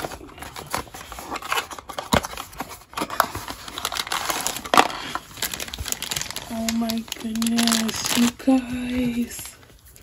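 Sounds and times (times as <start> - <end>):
cardboard rustling and scraping: 0.0 - 10.0.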